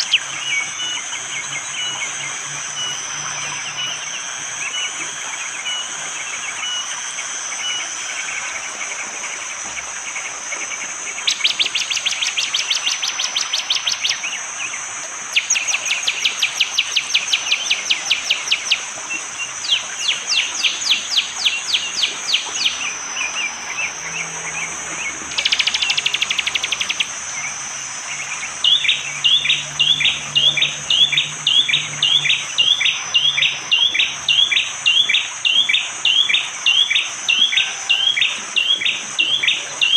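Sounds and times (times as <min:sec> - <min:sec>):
sharp down-slurred bird notes: 0:00.0 - 0:08.6, 0:11.2 - 0:39.9
bird calling in clicking trills: 0:00.0 - 0:39.9
high insect drone: 0:00.0 - 0:39.9.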